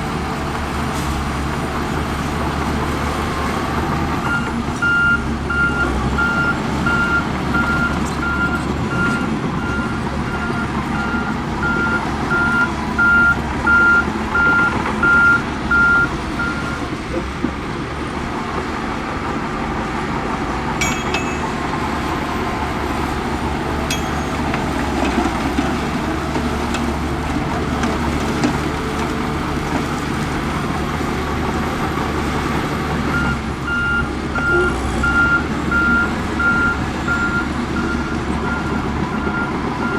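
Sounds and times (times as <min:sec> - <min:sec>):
diesel machinery running: 0:00.0 - 0:39.9.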